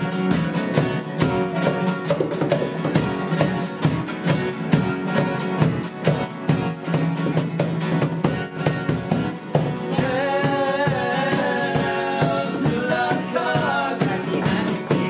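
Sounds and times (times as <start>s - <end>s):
steady drum beat: 0.0s - 15.0s
strummed guitars: 0.0s - 15.0s.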